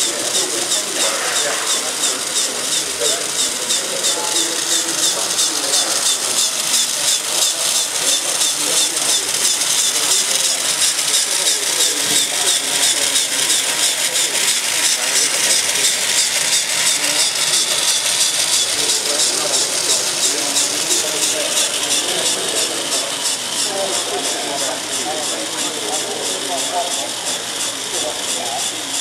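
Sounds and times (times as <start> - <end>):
voices chattering: 0.0 - 29.0.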